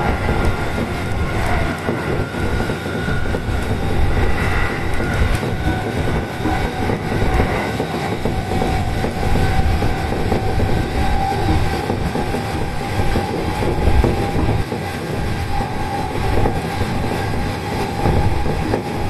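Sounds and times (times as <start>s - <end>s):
high whining tones: 0.0s - 19.0s
train wheels rumbling on rail: 0.0s - 19.0s.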